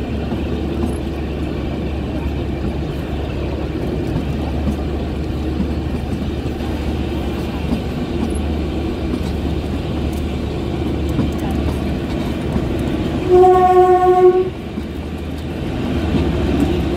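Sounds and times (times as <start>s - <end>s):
train rumbling: 0.0s - 16.9s.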